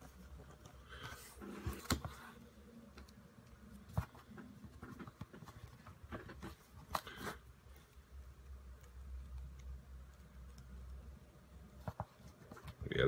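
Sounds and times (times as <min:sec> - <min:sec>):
soft handling of modelling material: 0:00.0 - 0:13.0.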